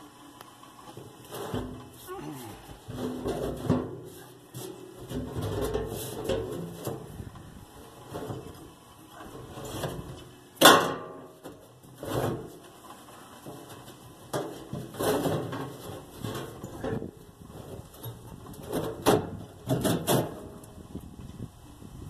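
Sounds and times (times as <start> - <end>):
metal fuel tank knocking and scraping: 0.9 - 12.7, 13.4 - 20.8.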